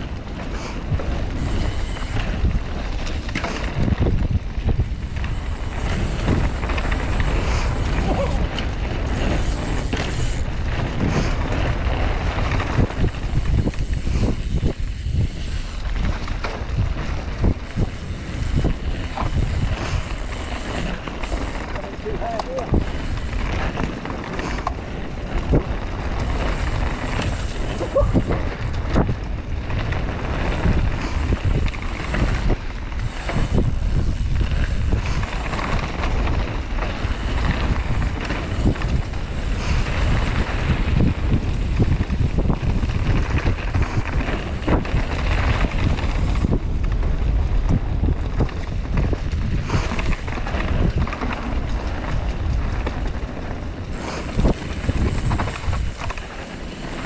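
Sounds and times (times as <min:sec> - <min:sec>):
tyres rolling on dirt trail: 0:00.0 - 0:57.0
wind rushing over microphone: 0:00.0 - 0:57.0.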